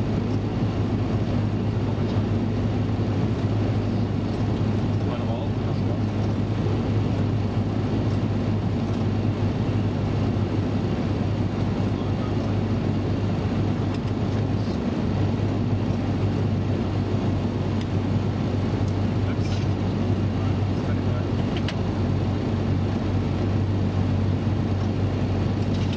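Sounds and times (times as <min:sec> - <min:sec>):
rush of air and engine drone: 0:00.0 - 0:25.9
steady low hum: 0:00.0 - 0:25.9.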